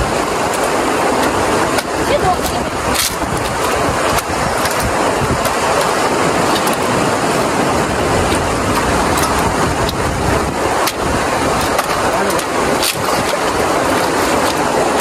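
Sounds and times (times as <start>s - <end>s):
river rushing over stones: 0.0s - 15.0s
blade splitting kindling: 0.1s - 15.0s.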